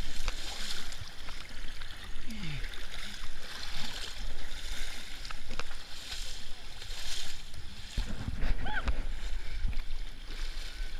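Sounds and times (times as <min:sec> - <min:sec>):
muddy water splashing: 0:00.0 - 0:10.9.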